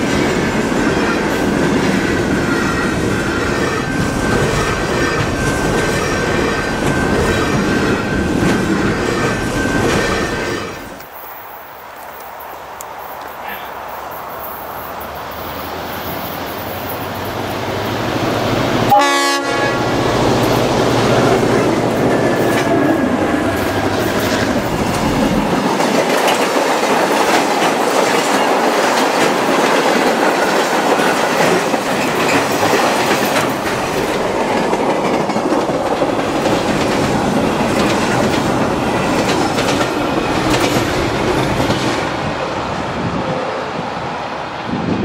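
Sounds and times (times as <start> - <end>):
train wheels clattering over rails: 0.0 - 11.2, 14.3 - 42.2
diesel locomotive engine drone: 0.0 - 45.0.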